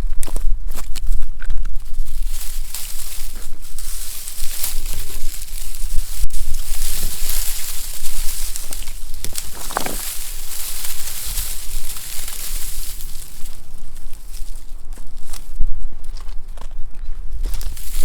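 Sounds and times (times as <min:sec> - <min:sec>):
rustling and crinkling: 0:00.0 - 0:18.0.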